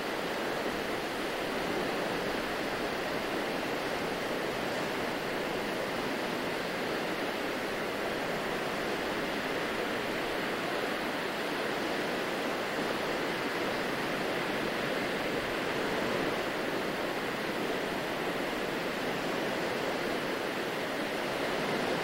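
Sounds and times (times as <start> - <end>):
small waves washing on beach: 0.0 - 22.0.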